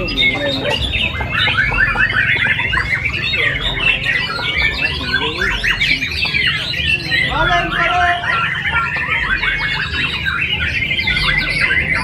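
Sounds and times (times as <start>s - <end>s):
songbirds singing in chorus: 0.0s - 12.0s.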